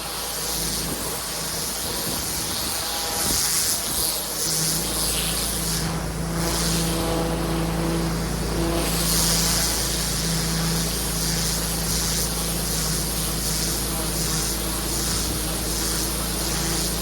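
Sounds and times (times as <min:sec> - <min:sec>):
pressure washer engine hum: 0:00.0 - 0:17.0
water spray hissing on paving: 0:00.0 - 0:17.0.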